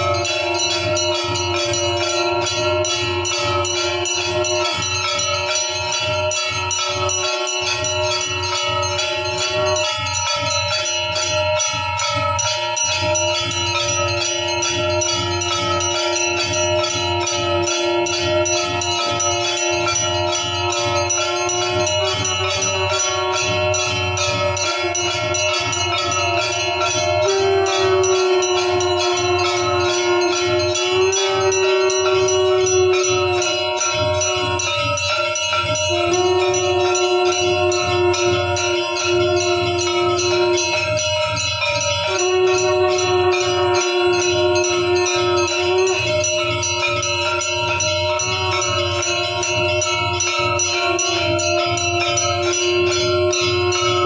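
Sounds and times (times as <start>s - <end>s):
temple bells rung rapidly: 0.0s - 54.0s.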